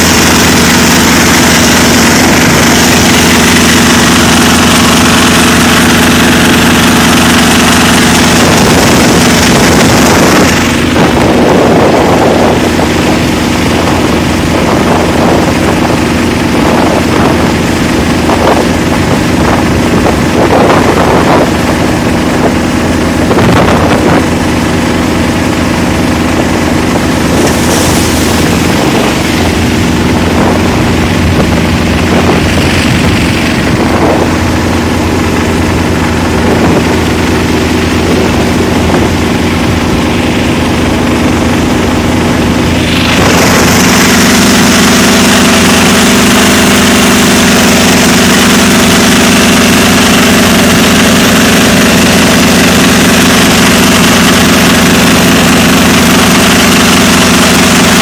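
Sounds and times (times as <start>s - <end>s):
boat engine running: 0.0s - 58.0s
rush of water spray: 0.0s - 58.0s.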